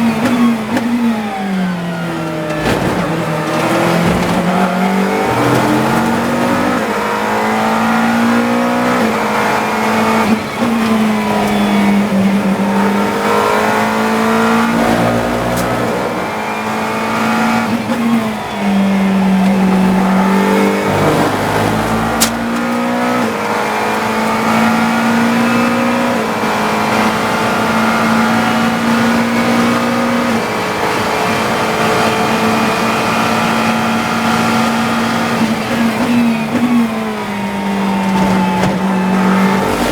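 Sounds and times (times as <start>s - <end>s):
quick gear changes: 0.0s - 39.9s
race car engine revving: 0.0s - 39.9s.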